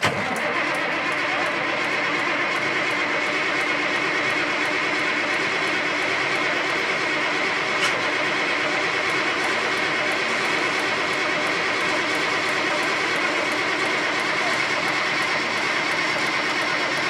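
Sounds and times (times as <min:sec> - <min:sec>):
diesel engine cranking: 0:00.0 - 0:17.0.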